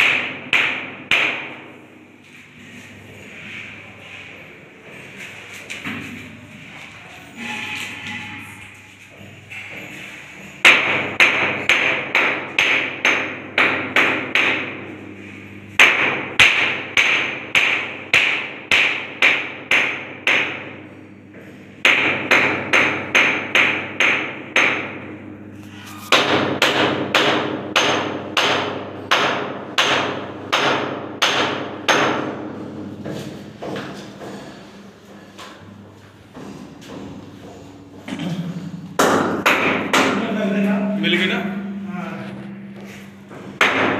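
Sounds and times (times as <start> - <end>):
hammer striking concrete ceiling: 0.0 - 1.8, 8.1 - 15.0, 15.7 - 25.2, 26.0 - 43.9.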